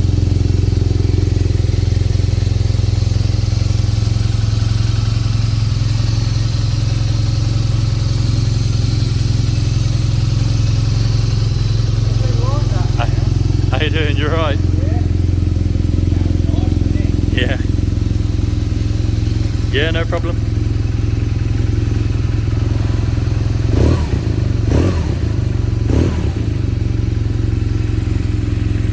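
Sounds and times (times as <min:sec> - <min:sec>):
motorcycle engine idling: 0:00.0 - 0:28.9
motorcycle throttle blips: 0:00.0 - 0:28.9.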